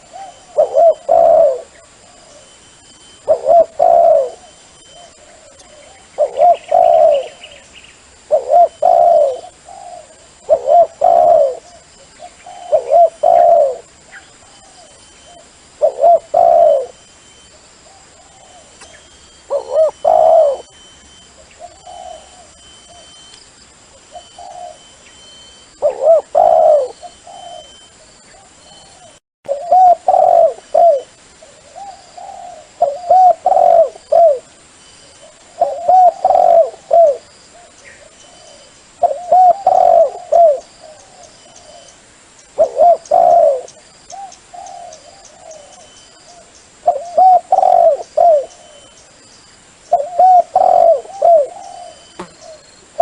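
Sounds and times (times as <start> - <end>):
dove cooing: 0.0 - 7.6, 8.2 - 17.1, 17.9 - 23.3, 23.9 - 42.0, 42.6 - 49.0, 49.9 - 53.0.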